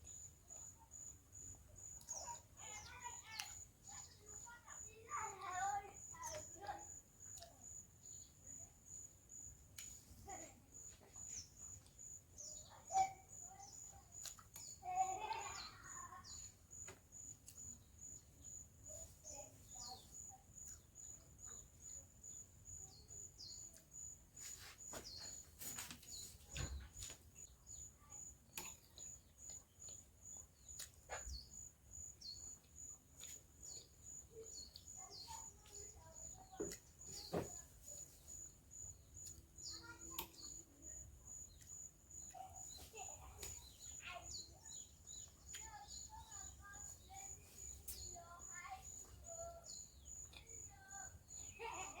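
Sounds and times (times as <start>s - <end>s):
cricket chirping: 0.0s - 52.0s.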